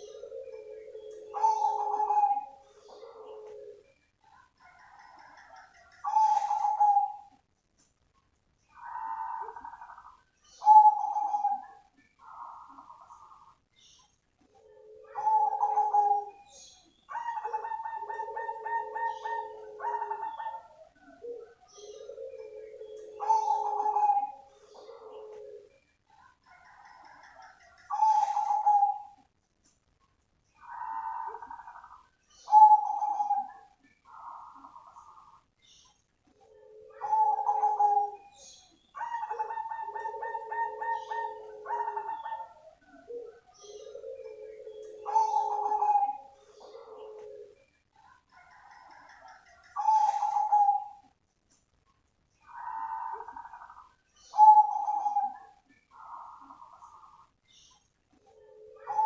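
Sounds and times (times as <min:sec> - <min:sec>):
dove cooing: 0:00.0 - 0:07.5, 0:08.7 - 0:13.6, 0:14.5 - 0:29.3, 0:30.6 - 0:35.4, 0:36.4 - 0:51.1, 0:52.4 - 0:57.3, 0:58.1 - 0:59.0.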